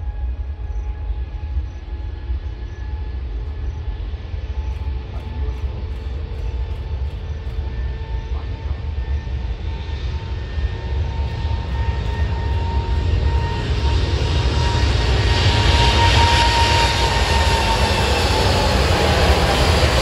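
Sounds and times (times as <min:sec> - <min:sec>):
deep rumble: 0:00.0 - 0:20.0
jet engines roaring: 0:00.0 - 0:20.0.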